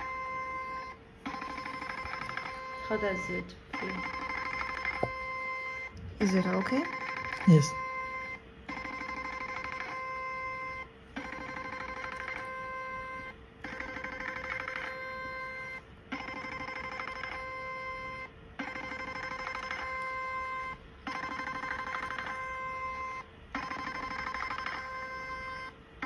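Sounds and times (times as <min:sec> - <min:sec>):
machine ringing tone: 0:00.0 - 0:25.8.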